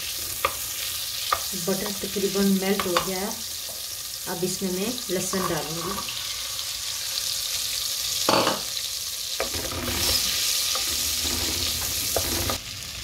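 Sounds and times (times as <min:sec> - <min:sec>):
garlic sizzling in butter: 0:00.0 - 0:13.0.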